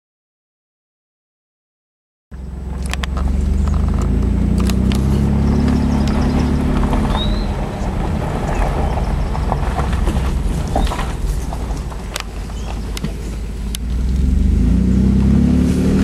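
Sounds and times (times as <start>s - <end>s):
car engine under throttle: 2.3s - 16.0s.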